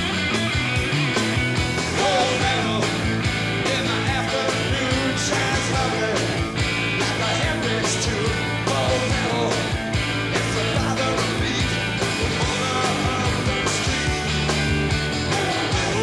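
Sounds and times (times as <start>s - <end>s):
bass guitar: 0.0s - 16.0s
distorted electric guitars: 0.0s - 16.0s
drums beating: 0.0s - 16.0s.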